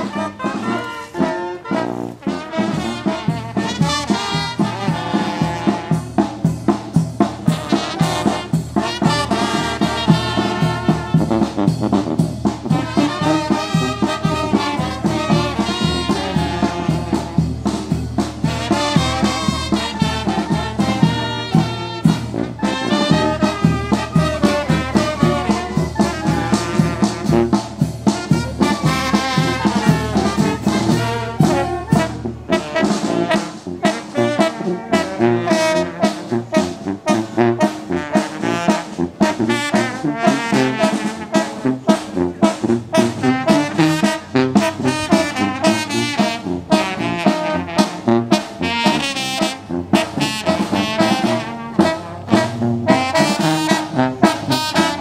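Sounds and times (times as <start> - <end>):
marching brass band: 0.0 - 55.0.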